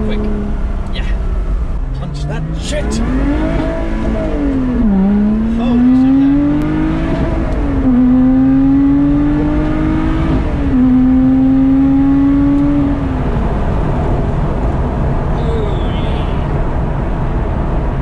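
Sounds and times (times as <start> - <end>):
car engine accelerating with upshifts: 0.0 - 18.0
road and tyre noise: 0.0 - 18.0.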